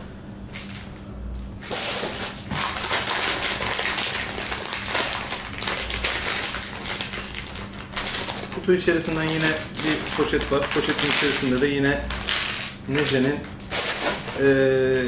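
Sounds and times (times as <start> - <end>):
plastic bag crinkling: 1.6 - 14.6.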